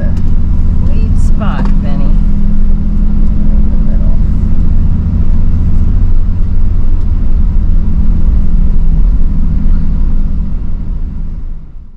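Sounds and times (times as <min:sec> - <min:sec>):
off-road vehicle engine rumble: 0:00.0 - 0:11.9.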